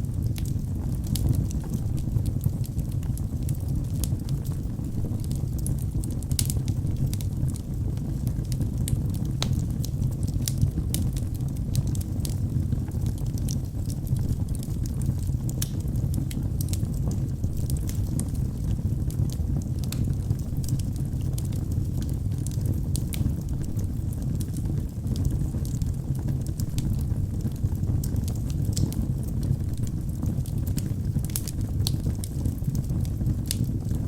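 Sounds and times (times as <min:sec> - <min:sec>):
fire crackling and popping: 0:00.0 - 0:34.0
fire flames rumbling: 0:00.0 - 0:34.0.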